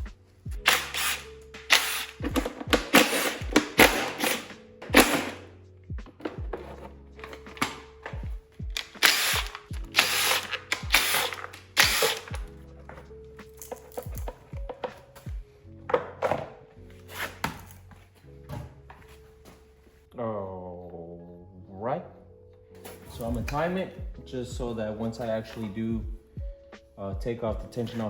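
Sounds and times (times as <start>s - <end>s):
background music with thuds: 0.0s - 19.7s, 22.8s - 28.0s.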